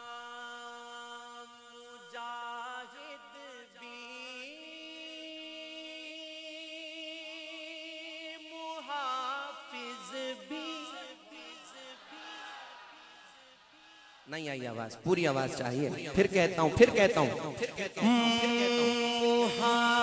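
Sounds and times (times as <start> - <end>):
man singing unaccompanied: 0.0 - 12.7, 15.7 - 20.0.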